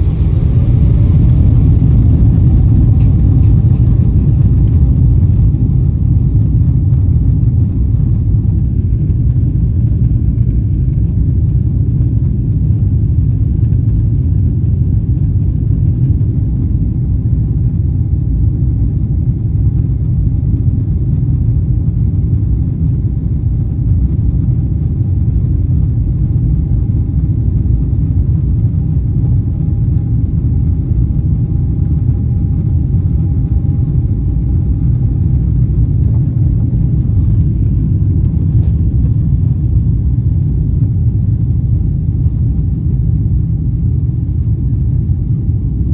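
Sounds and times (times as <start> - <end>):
faint steady whine: 0.0 - 45.9
jet engines rumbling: 0.0 - 45.9.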